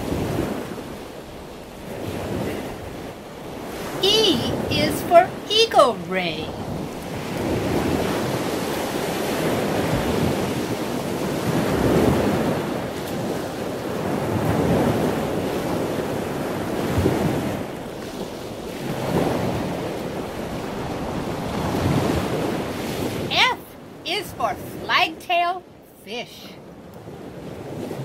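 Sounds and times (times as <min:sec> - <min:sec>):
ocean waves washing in: 0:00.0 - 0:28.0.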